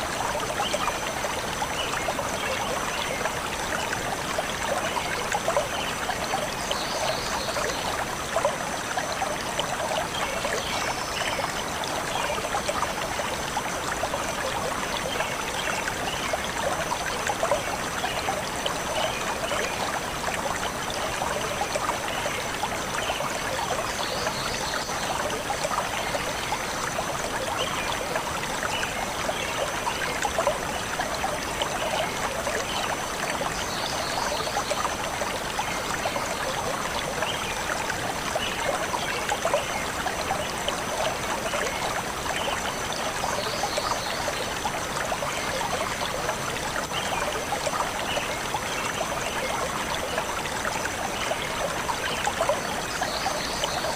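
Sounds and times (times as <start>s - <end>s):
stream trickling over stones: 0.0s - 53.9s.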